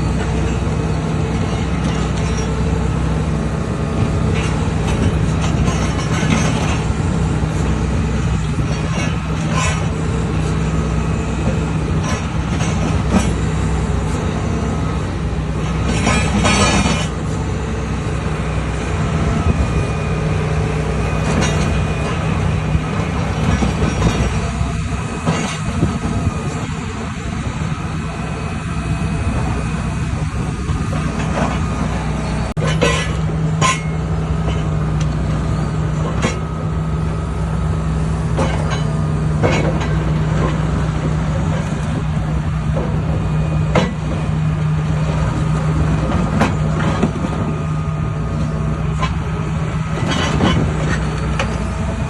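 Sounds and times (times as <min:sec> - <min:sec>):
diesel construction machinery running: 0:00.0 - 0:52.0.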